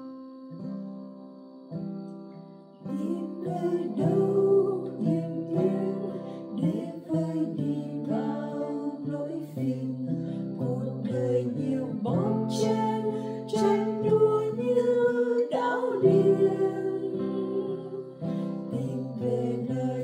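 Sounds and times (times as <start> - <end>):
acoustic guitar strumming: 0.6 - 20.0
voices singing a hymn: 2.8 - 20.0.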